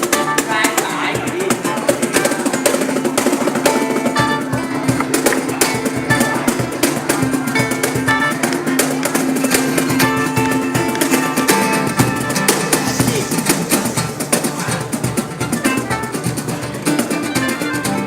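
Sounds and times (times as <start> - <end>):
live band music: 0.0 - 18.0
plucked string instrument picking: 0.0 - 18.0
steady percussive rhythm: 0.0 - 18.0.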